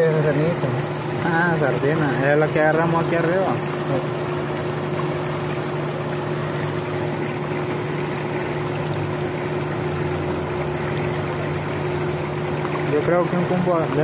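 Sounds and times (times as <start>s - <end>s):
motor humming drone: 0.0s - 14.0s.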